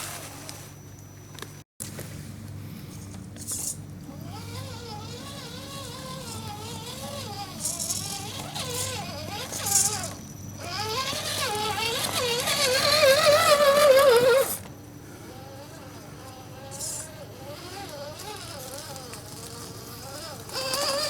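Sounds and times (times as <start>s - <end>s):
electric motor and gears whining: 3.1s - 21.0s.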